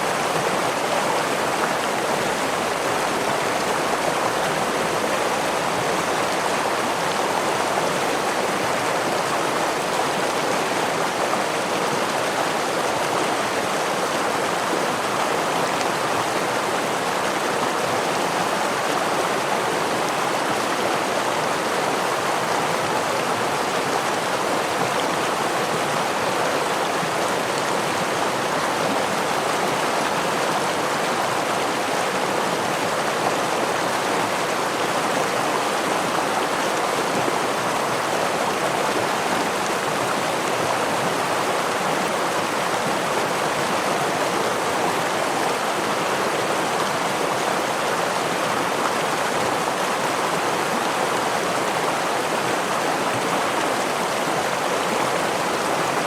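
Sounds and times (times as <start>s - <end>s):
stream water running over rocks: 0.0s - 56.0s.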